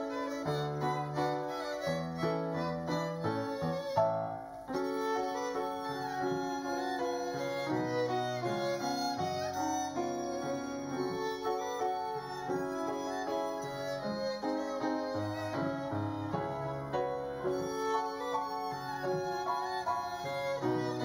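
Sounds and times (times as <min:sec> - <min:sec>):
piano accompaniment: 0:00.0 - 0:21.0
violins playing a melody: 0:00.0 - 0:21.0.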